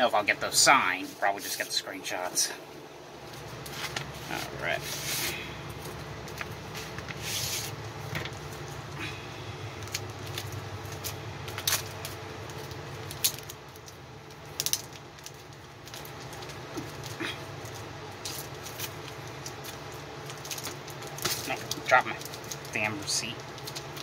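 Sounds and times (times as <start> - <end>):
steady low hum: 0.0 - 24.0
packaging rustling: 3.2 - 9.0, 9.7 - 24.0.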